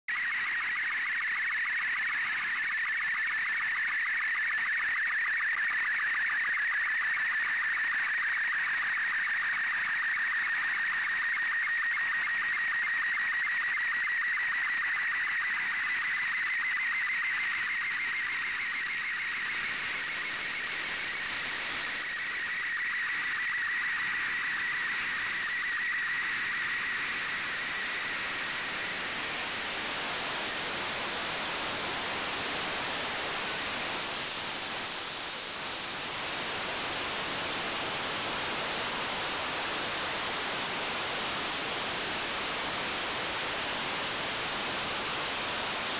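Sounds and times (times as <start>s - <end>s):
radio static hiss: 0.1s - 45.9s.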